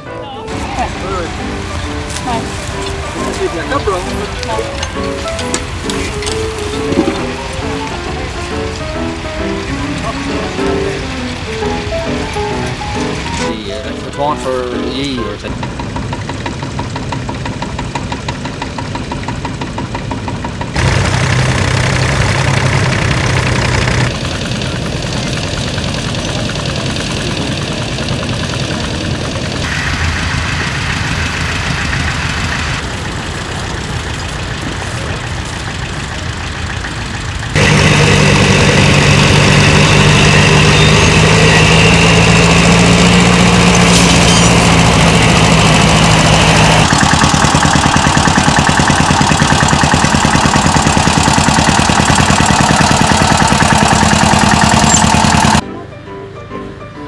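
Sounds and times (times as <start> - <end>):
tractor engines running: 0.0 - 55.6.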